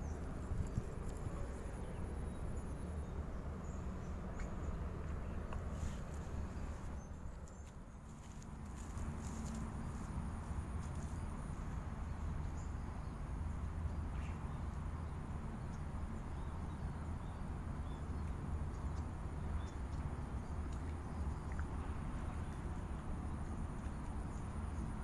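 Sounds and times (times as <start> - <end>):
constant low rumble: 0.0 - 25.0.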